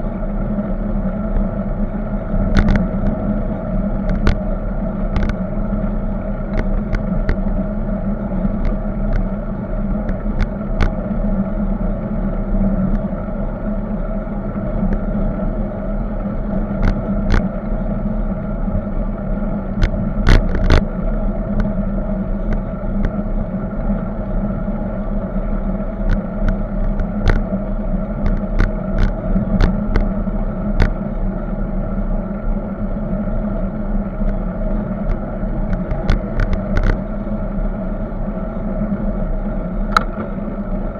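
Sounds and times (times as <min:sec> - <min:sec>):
bicycle clicks and rattles over bumps: 0:00.0 - 0:40.9
bicycle road rumble: 0:00.0 - 0:40.9.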